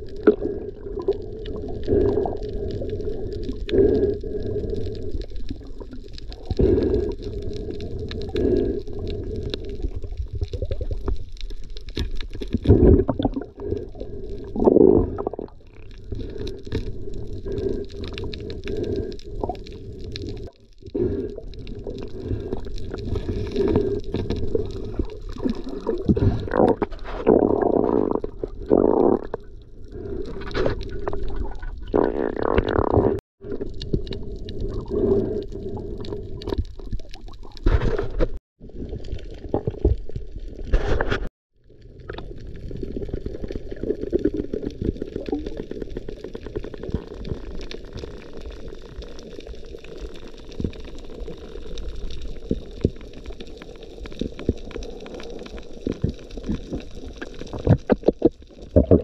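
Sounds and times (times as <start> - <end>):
crackle of small clicks: 0.0 - 14.8, 15.4 - 27.3, 28.2 - 59.0.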